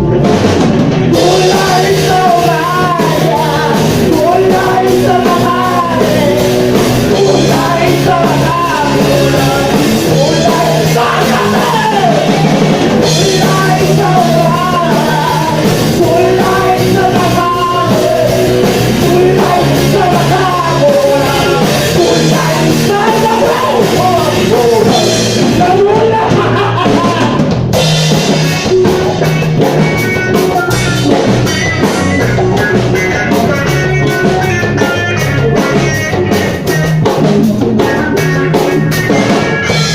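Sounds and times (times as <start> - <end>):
bass guitar: 0.0 - 39.9
drum kit: 0.0 - 39.9.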